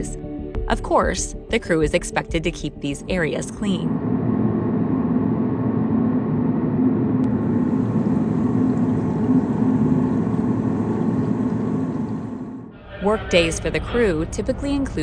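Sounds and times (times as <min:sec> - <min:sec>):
low machinery drone: 0:01.6 - 0:15.0.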